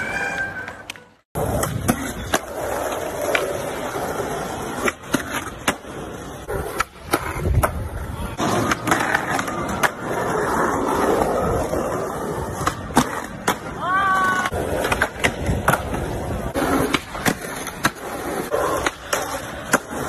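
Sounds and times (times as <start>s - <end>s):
skateboard wheels rolling on stone: 0.0s - 20.0s
skateboard clacks: 0.8s - 20.0s.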